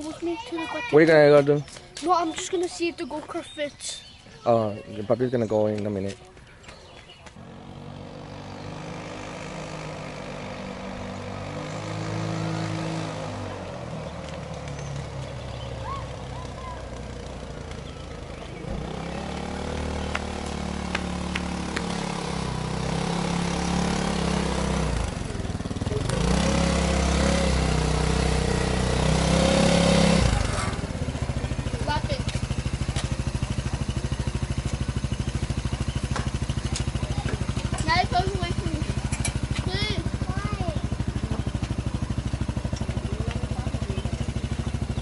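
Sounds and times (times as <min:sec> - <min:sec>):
go-kart engine driving: 0:00.0 - 0:45.0.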